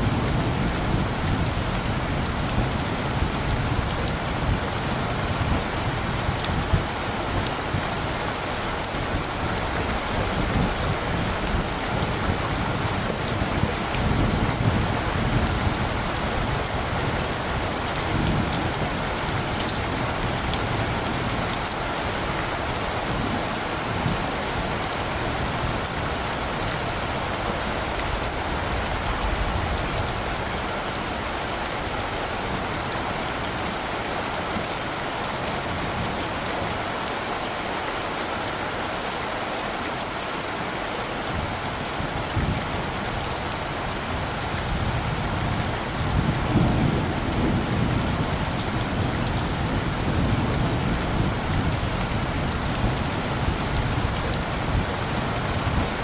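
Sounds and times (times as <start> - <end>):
rain hissing: 0.0 - 56.0
raindrops ticking on surfaces: 0.0 - 56.0.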